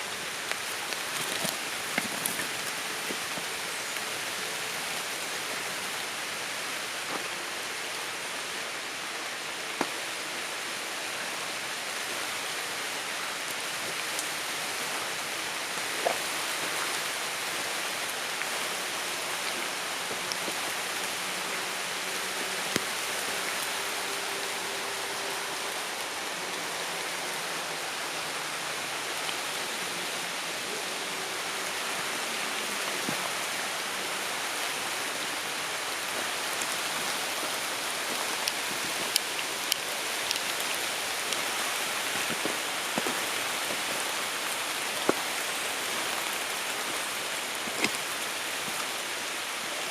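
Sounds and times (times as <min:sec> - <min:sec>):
light rain on leaves: 0:00.0 - 0:49.9.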